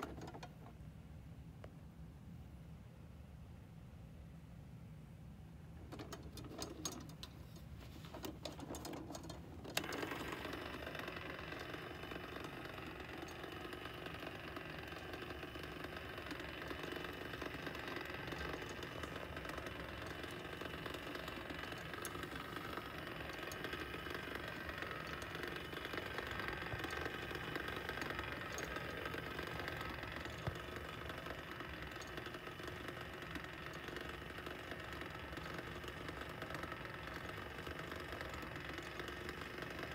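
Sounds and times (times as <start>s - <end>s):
small motor whirring: 0.0s - 0.5s, 5.9s - 39.9s.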